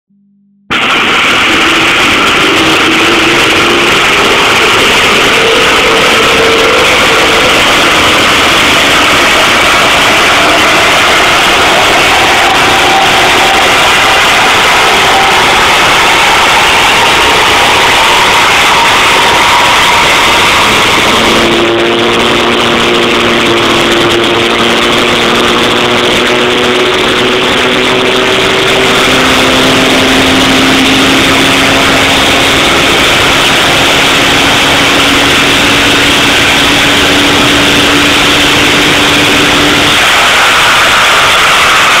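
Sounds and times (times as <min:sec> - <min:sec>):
diesel engine running under load: 0:00.7 - 0:42.0.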